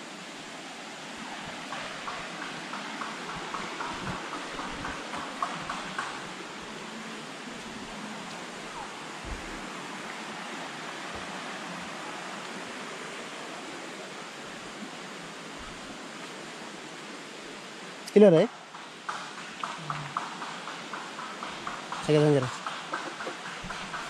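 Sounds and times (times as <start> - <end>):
river rushing over stones: 0.0 - 24.0.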